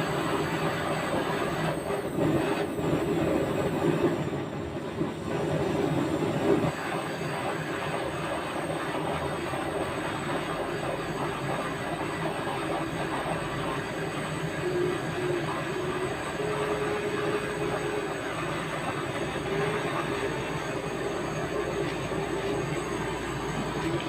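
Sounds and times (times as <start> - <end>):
mechanical rumble and hiss: 0.0 - 24.0.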